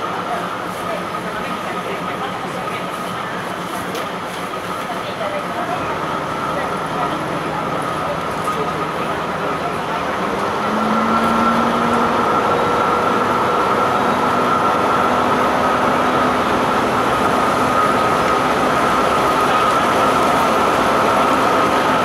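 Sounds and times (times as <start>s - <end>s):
diesel engine drone: 0.0s - 22.0s
wheels rumbling on rails: 0.0s - 22.0s.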